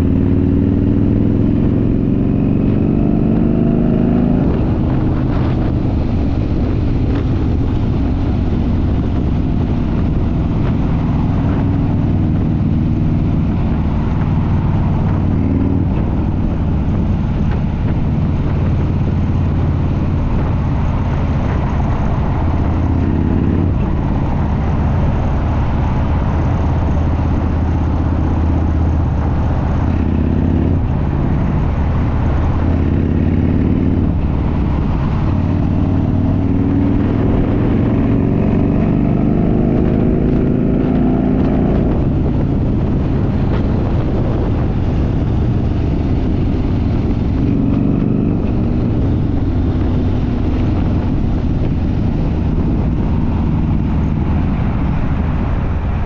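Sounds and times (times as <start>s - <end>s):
motorcycle engine accelerating: 0.0s - 56.0s
wind noise: 0.0s - 56.0s.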